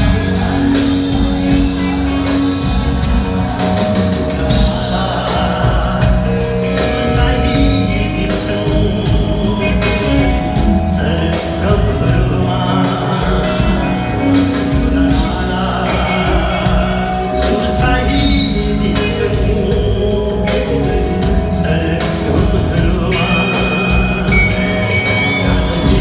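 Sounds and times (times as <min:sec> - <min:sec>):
folk-rock band playing live: 0:00.0 - 0:26.0
man singing: 0:00.0 - 0:26.0.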